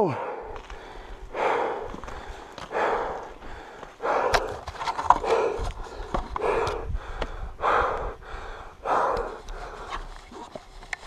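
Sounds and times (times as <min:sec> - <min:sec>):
person breathing hard and panting: 0:00.0 - 0:10.2.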